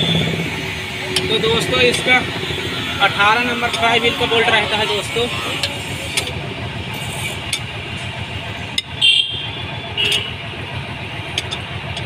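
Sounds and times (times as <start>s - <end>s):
low engine-like rumble: 0.0s - 12.0s.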